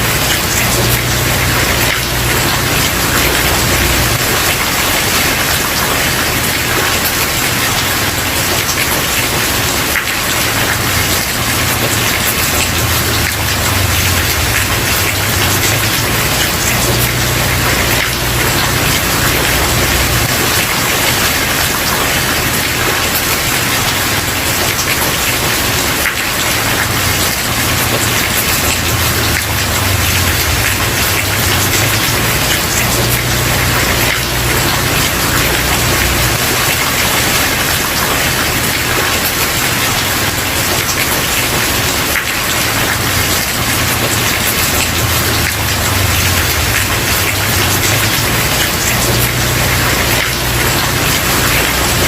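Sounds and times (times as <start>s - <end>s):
heavy rain on wooden porch: 0.0s - 52.0s.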